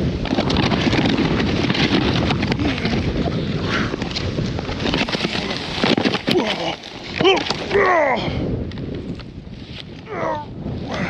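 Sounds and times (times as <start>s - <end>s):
sled knocking and scraping snow: 0.0s - 7.9s, 8.5s - 11.0s
wind rushing over microphone: 0.0s - 11.0s.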